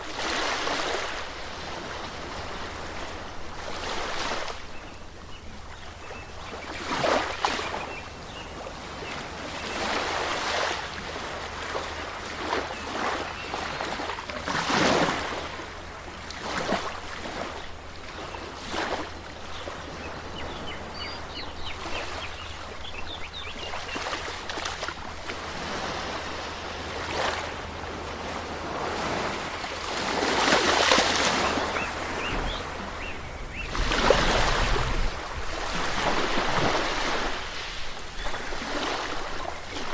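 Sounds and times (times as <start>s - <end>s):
waves washing onto shore: 0.0s - 39.9s.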